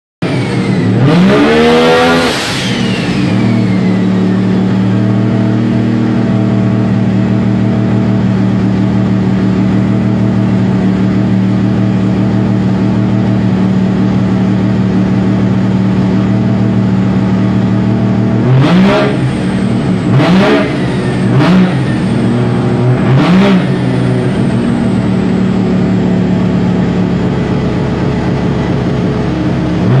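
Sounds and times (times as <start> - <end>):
engine throttle blips: 0.2 - 30.0
rotary engine revving and idling: 0.2 - 30.0.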